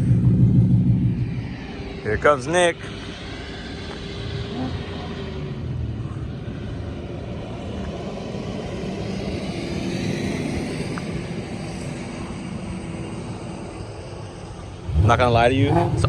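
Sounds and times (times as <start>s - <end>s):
car engine driving up: 0.0s - 16.0s.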